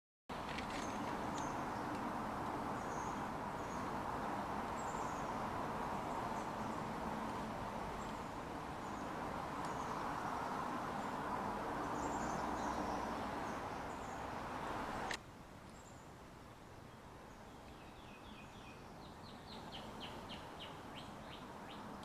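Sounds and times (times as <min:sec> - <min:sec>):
outdoor background noise: 0:00.3 - 0:22.0.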